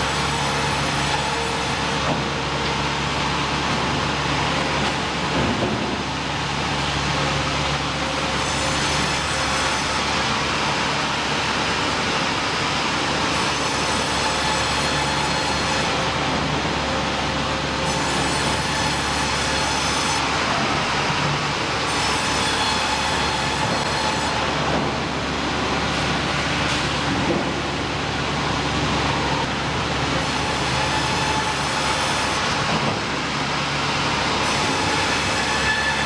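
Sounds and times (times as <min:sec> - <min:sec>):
sawmill machinery running: 0:00.0 - 0:36.0.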